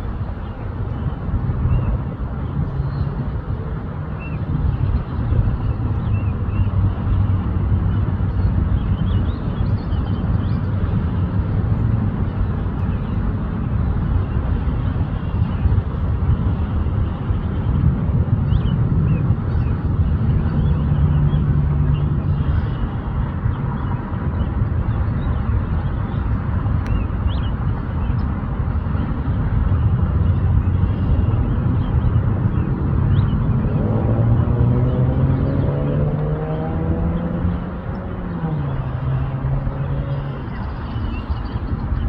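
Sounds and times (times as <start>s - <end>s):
engine-like whine: 0.0s - 42.0s
low outdoor rumble: 0.0s - 42.0s.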